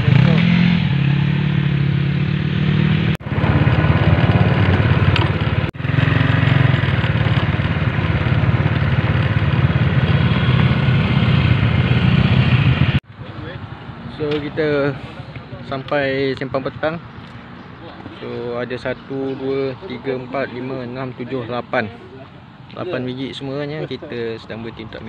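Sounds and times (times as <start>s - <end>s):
motorcycle engines running: 0.0s - 25.0s
road and wind noise: 0.0s - 25.0s.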